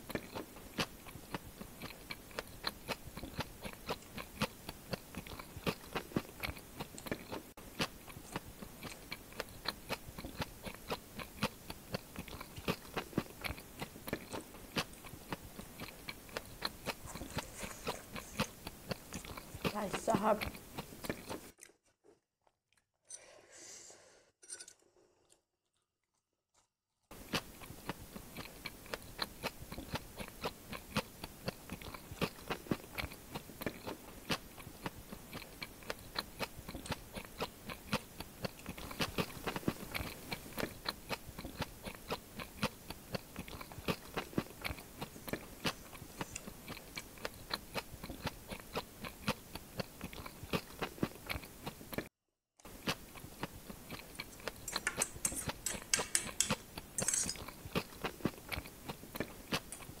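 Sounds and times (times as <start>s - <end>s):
close chewing crunches: 0.0s - 22.8s, 27.1s - 60.0s.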